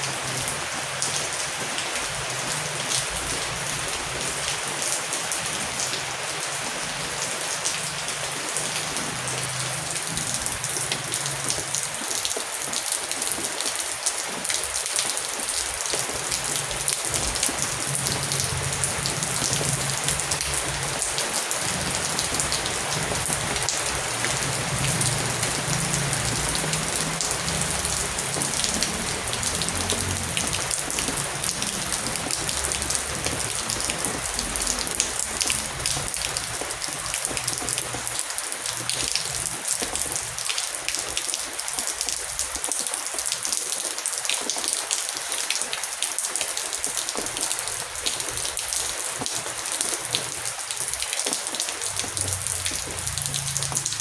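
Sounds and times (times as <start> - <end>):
heavy rain falling: 0.0 - 54.0
sharp raindrop ticks: 7.2 - 54.0.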